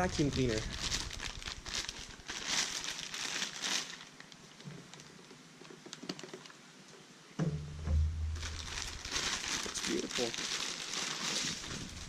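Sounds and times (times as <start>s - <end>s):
plastic packaging crinkling: 0.0s - 6.6s, 8.3s - 12.0s.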